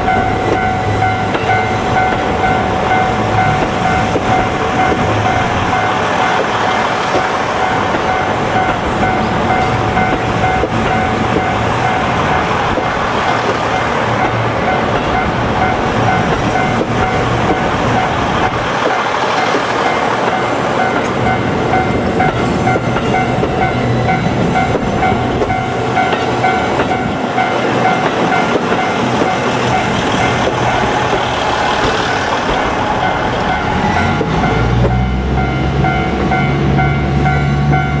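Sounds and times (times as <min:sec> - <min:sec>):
level-crossing alarm ringing: 0:00.0 - 0:38.0
train wheels rumbling on rail: 0:00.0 - 0:38.0.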